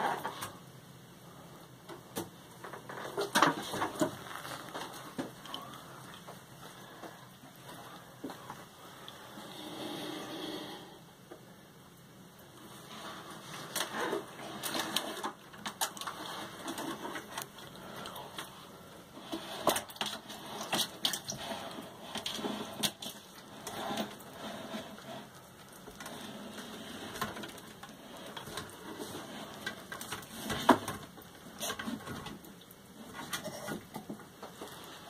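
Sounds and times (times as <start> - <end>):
lizard crunching and chewing: 2.6 - 10.7, 12.4 - 35.0.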